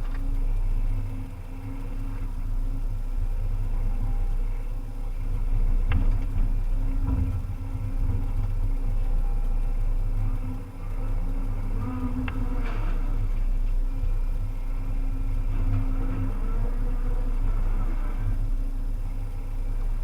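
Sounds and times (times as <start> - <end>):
excavator diesel engine running: 0.0 - 20.0
faint hydraulic whine: 0.0 - 20.0.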